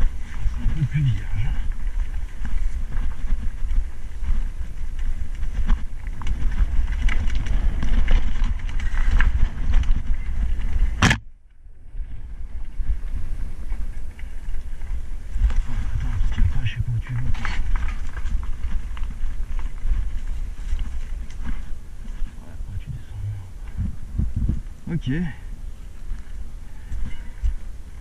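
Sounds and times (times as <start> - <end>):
bike rattling on stony ground: 0.0 - 22.5, 23.6 - 28.0
bike tyre noise: 0.0 - 28.0
wind rumbling on microphone: 0.0 - 28.0.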